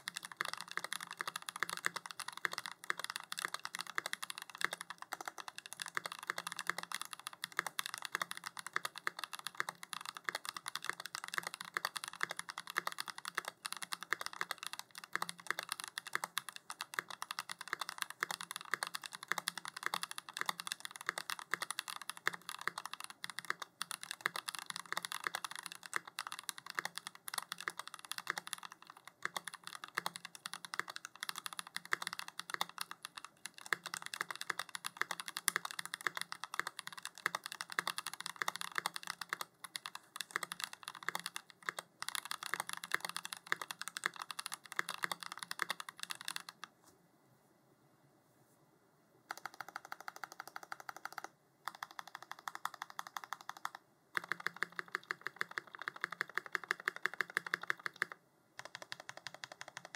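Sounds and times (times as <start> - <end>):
mechanical keyboard typing: 0.0 - 46.7, 49.3 - 59.9.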